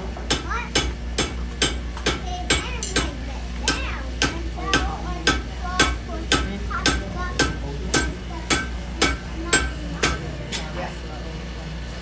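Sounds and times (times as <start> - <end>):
hammer striking metal on anvil: 0.3 - 10.2.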